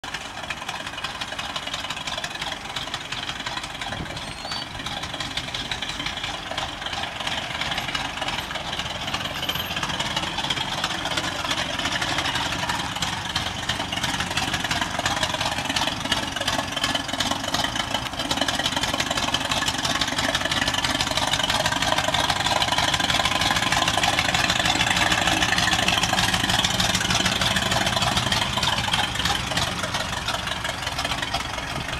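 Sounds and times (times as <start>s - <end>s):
car engine running at low speed: 0.0s - 31.9s.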